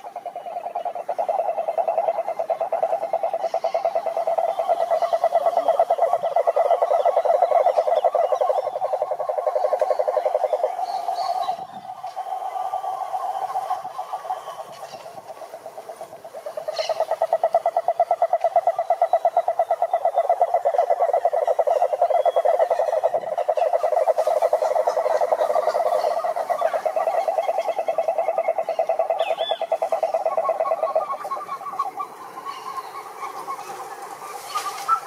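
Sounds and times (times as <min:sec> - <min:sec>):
frog trilling: 0:00.0 - 0:35.0.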